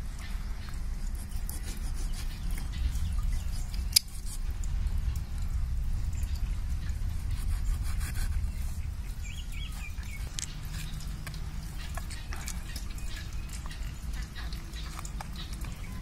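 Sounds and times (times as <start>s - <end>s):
low rumble: 2.4s - 15.9s.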